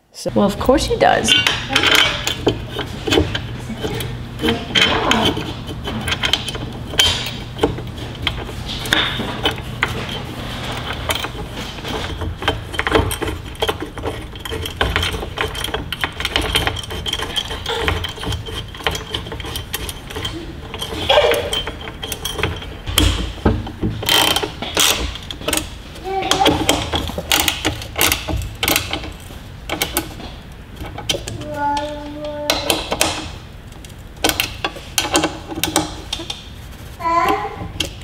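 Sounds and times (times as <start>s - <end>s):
small metallic knocks: 1.2s - 38.0s
socket ratchet clicking: 1.3s - 25.7s, 26.3s - 36.4s.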